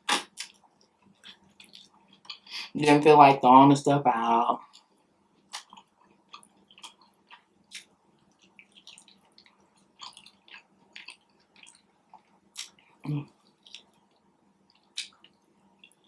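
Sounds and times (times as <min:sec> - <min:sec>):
person chewing and smacking: 0:00.0 - 0:02.5, 0:04.6 - 0:16.0.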